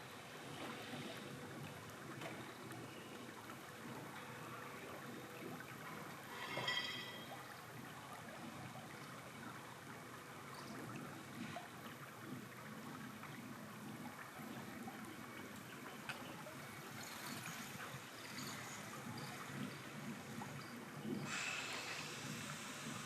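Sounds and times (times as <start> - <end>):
river water running: 0.0 - 23.0.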